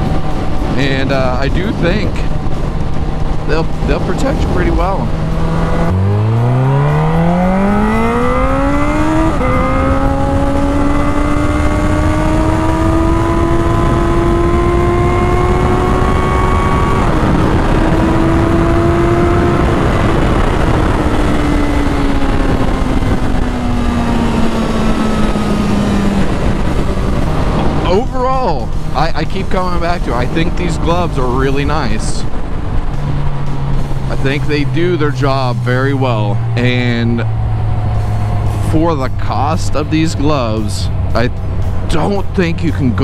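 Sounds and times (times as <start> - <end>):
motorcycle engine accelerating: 0.0 - 43.0
wind and road noise: 0.0 - 43.0.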